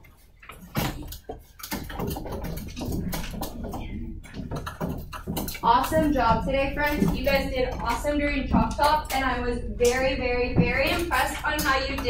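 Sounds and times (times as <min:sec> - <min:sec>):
desks and chairs knocking: 0:00.1 - 0:12.0.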